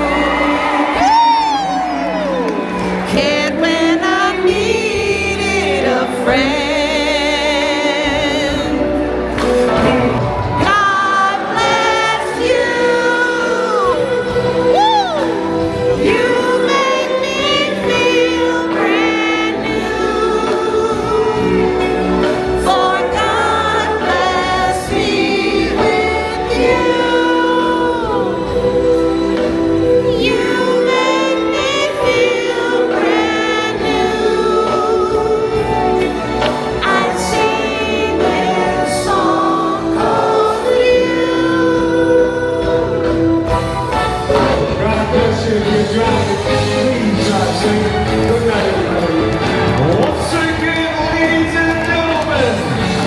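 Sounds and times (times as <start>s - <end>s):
band accompaniment: 0.0s - 53.0s
vocalists singing with vibrato: 0.0s - 53.0s.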